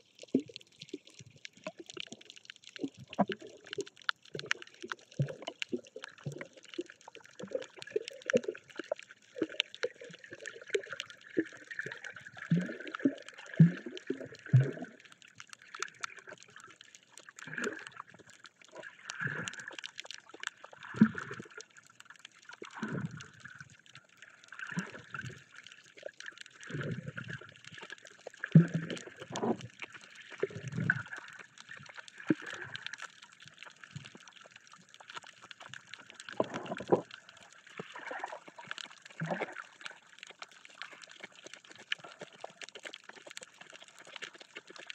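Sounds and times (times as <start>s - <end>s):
underwater gurgling and sloshing: 0.0s - 44.9s.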